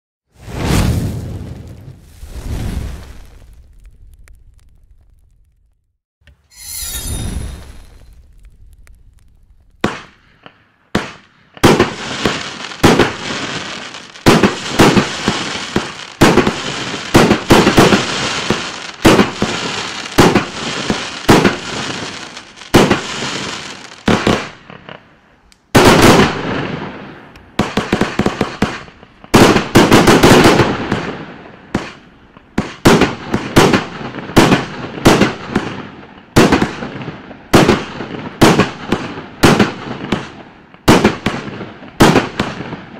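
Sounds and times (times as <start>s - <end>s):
fireworks firing and bursting: 0.3s - 6.0s, 6.6s - 25.1s, 25.7s - 42.9s.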